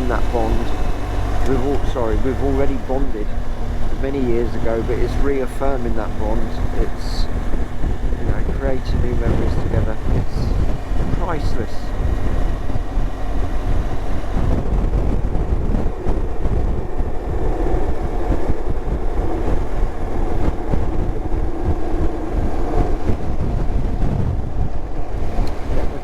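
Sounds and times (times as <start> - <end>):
motorcycle engine: 0.0 - 26.0
road noise: 0.0 - 26.0
wind rushing over microphone: 0.0 - 26.0.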